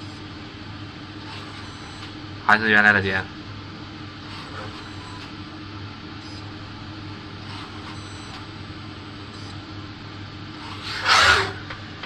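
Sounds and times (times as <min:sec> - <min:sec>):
soldering machine humming: 0:00.0 - 0:12.0.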